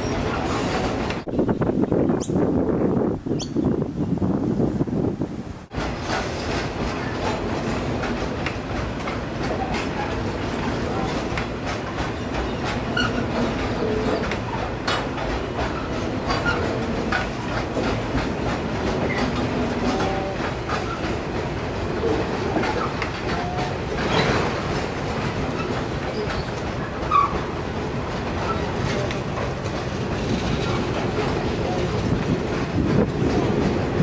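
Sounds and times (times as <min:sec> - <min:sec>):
train wagons rumbling past: 0:00.0 - 0:03.2, 0:04.2 - 0:34.0
wheels clacking over rail joints: 0:05.7 - 0:34.0.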